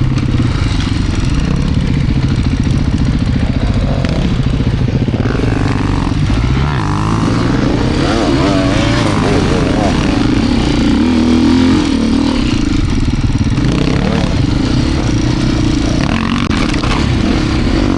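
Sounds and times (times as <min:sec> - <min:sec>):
motorcycle engine revving under load: 0:00.0 - 0:17.9.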